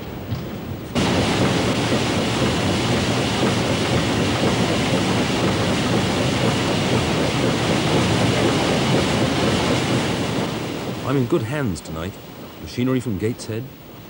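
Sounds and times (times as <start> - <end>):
steam engine clatter: 0.9 - 12.2.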